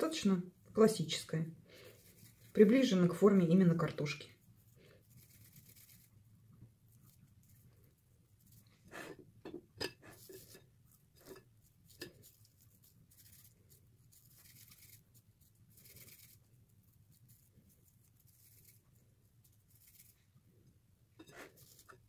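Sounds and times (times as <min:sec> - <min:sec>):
low steady hum: 0:00.0 - 0:22.0
soft rustles of mixture: 0:00.0 - 0:22.0.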